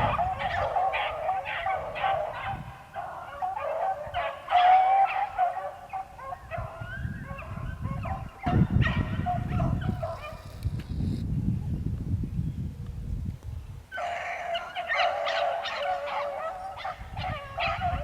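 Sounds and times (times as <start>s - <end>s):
dogs baying: 0.0s - 10.4s, 13.9s - 18.0s.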